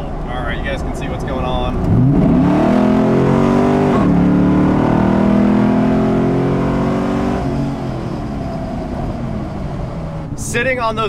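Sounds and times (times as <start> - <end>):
car engine accelerating: 0.0 - 10.5.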